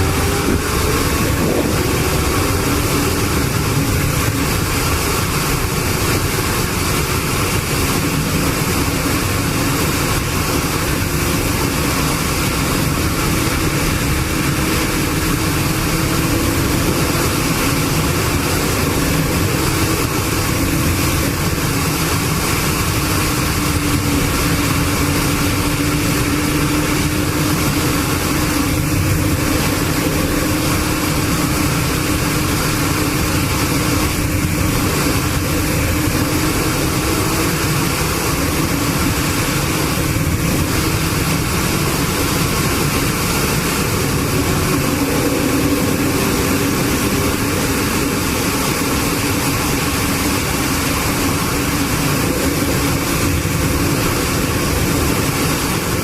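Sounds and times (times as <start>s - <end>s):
road and wind noise: 0.0s - 56.0s
vehicle engine droning: 0.0s - 56.0s.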